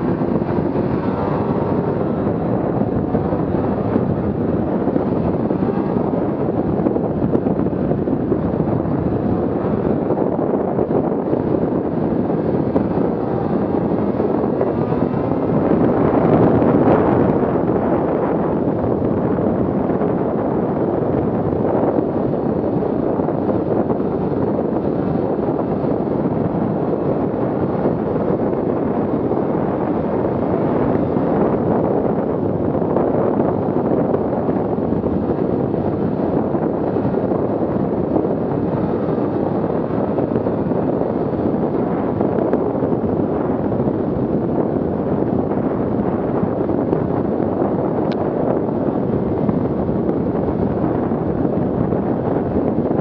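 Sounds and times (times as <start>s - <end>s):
muffled snowmobile engine: 0.0s - 53.0s
wind buffeting microphone: 0.0s - 53.0s.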